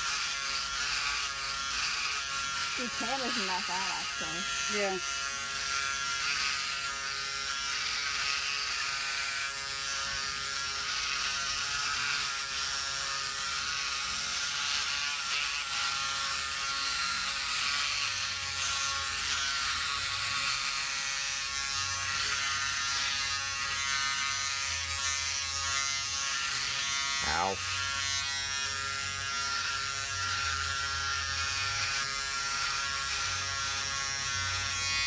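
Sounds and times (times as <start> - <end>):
electric shaver buzzing: 0.0 - 35.0.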